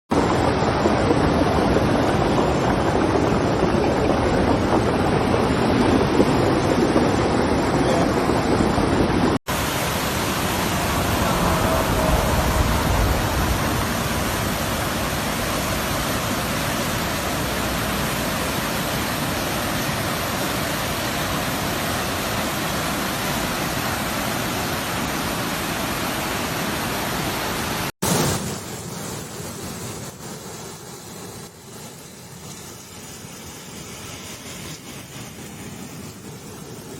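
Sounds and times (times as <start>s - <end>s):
flooded river rushing: 0.1s - 36.9s.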